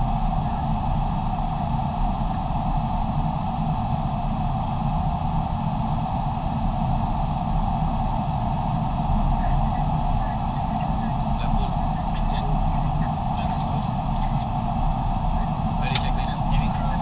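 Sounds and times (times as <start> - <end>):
airflow and engines rushing: 0.0 - 17.0.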